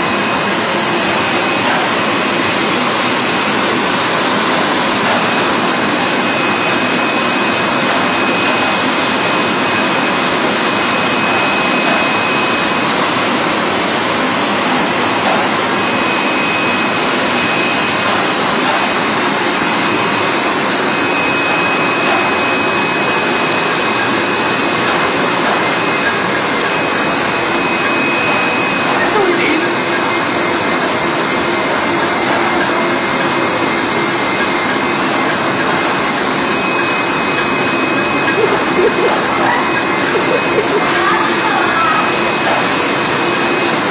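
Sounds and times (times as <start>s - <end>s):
factory machine running: 0.0s - 43.9s
thin high whine: 0.0s - 43.9s.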